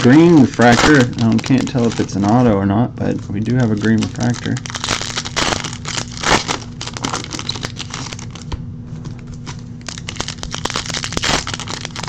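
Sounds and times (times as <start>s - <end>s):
wrapper crinkling and rustling: 0.0s - 12.0s.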